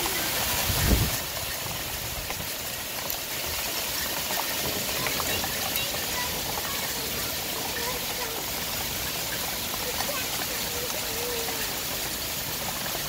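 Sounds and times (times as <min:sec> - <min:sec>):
hailstones ticking: 0:00.0 - 0:13.0
heavy rain hissing: 0:00.0 - 0:13.0.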